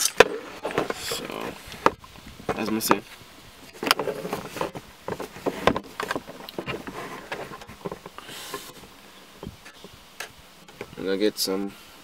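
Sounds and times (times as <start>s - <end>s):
short rustle: 0.0s - 10.0s.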